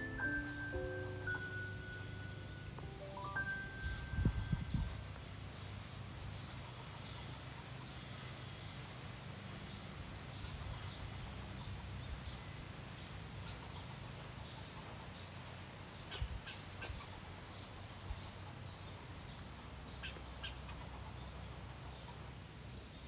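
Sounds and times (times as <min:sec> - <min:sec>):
low background hum: 0:00.0 - 0:23.0
small birds chirping: 0:00.0 - 0:23.0.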